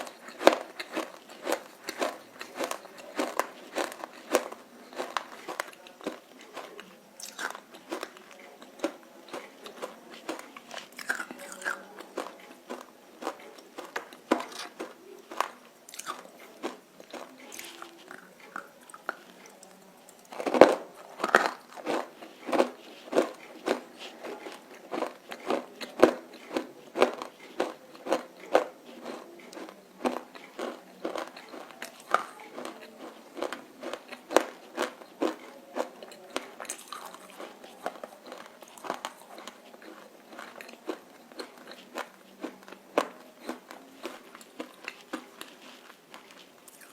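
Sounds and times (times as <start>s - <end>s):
crunching and chewing: 0.0s - 46.9s.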